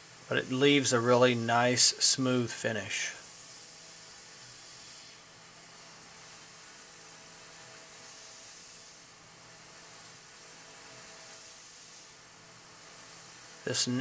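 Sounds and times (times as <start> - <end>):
milling machine cutting hiss: 0.0 - 14.0.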